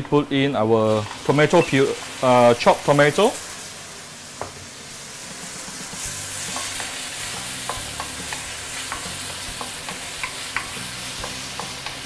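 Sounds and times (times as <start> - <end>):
food sizzling in hot oil: 0.8 - 12.0.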